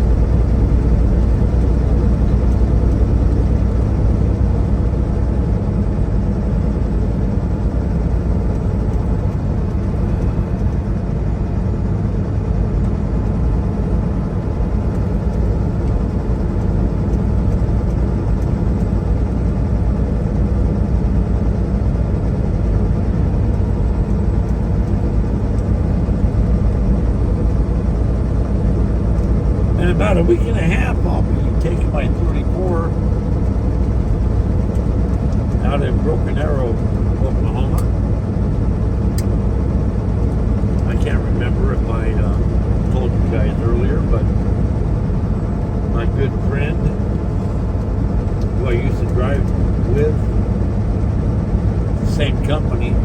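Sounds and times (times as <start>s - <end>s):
road noise: 0.0s - 53.0s
truck engine drone: 0.0s - 53.0s.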